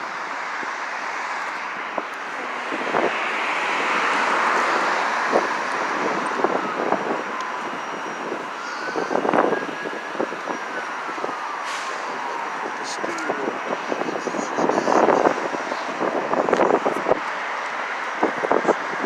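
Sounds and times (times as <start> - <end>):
traffic rushing: 0.0 - 19.0.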